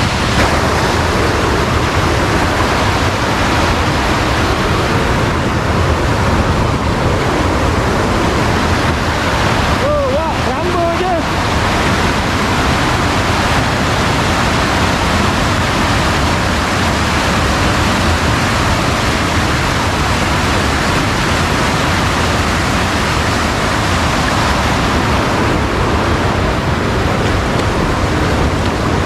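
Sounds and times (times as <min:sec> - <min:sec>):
fast-flowing water rushing: 0:00.0 - 0:29.0.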